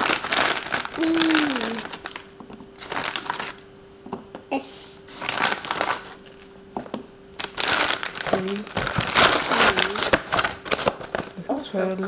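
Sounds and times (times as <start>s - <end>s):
plastic bag crinkling: 0.0s - 3.7s, 5.1s - 11.5s
faint steady hum: 0.0s - 12.0s.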